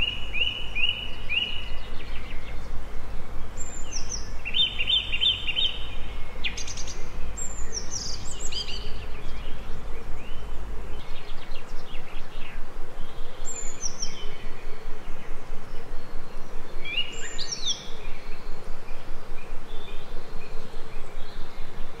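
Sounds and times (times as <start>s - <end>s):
low rumble: 0.0s - 21.9s
outdoor background hiss: 0.0s - 22.0s
small birds chirping: 0.0s - 22.0s.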